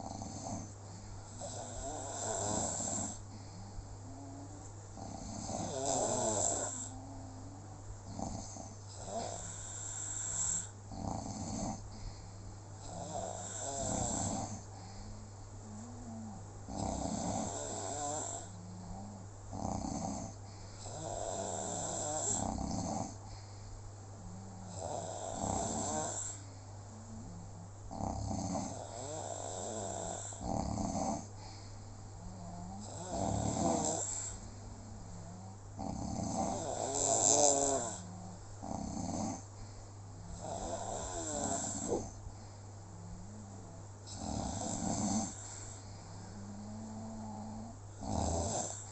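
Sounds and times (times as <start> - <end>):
loud rasping snoring: 0.0 - 0.7, 1.3 - 3.2, 4.0 - 11.8, 12.8 - 14.7, 15.8 - 23.2, 24.3 - 26.5, 27.1 - 31.3, 32.2 - 39.5, 40.3 - 42.2, 43.2 - 48.9.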